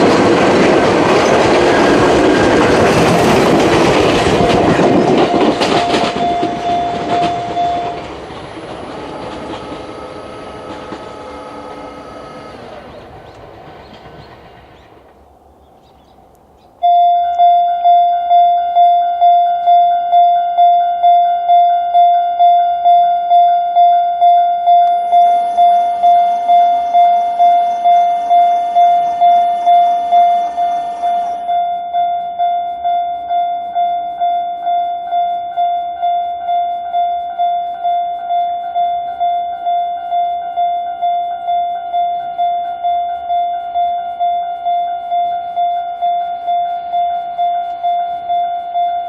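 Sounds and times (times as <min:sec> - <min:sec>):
level-crossing electronic bell: 0:00.0 - 0:08.2, 0:16.8 - 0:49.0.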